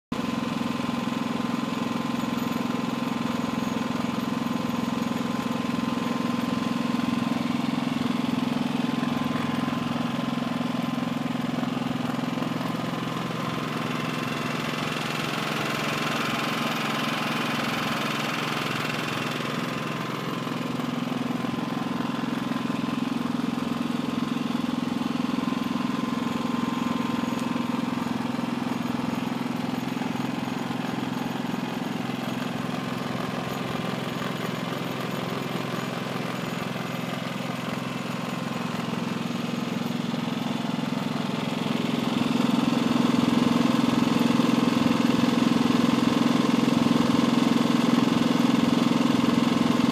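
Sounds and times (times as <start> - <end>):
generator engine hum: 0.2 - 49.9.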